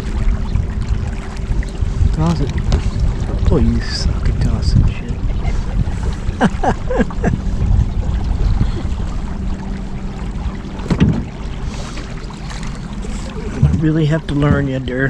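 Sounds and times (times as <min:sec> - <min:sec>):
steady low hum: 0:00.0 - 0:15.0
water noise: 0:00.0 - 0:15.0
wind buffeting microphone: 0:00.0 - 0:15.0.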